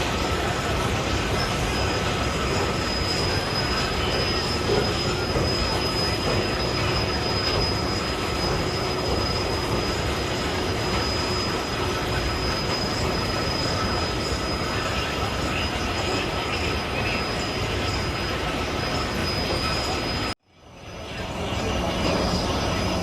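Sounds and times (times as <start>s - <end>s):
heavy machinery running: 0.0s - 23.0s
high-pitched whine: 0.0s - 23.0s.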